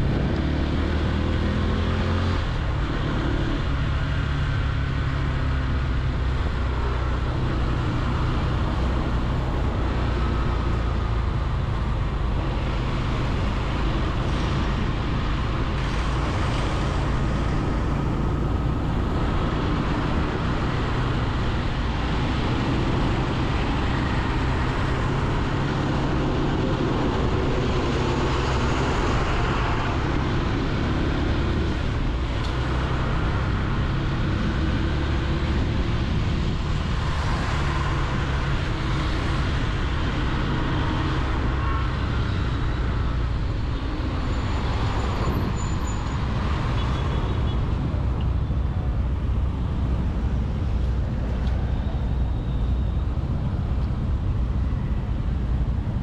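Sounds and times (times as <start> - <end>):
road and traffic noise: 0.0 - 56.0.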